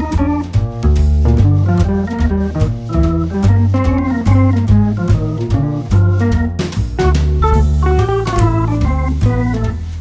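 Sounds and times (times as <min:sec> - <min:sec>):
organ-led instrumental music: 0:00.0 - 0:10.0.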